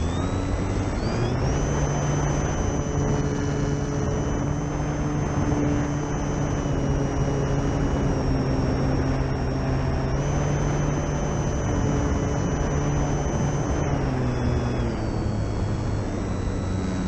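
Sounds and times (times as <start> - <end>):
model plane motor whining: 0.0 - 17.0
steady rushing noise: 0.0 - 17.0.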